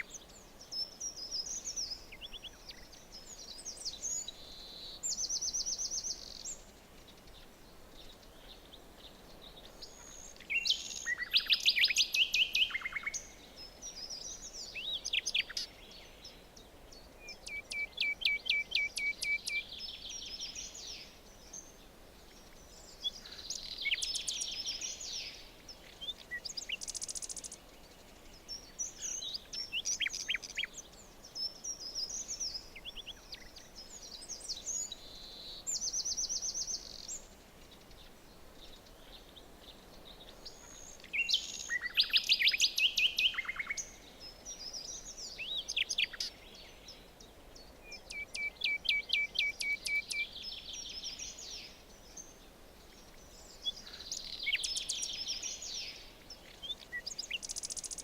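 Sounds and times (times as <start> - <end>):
faint forest background hiss: 0.0 - 58.0
songbirds trilling and chirping: 0.0 - 58.0.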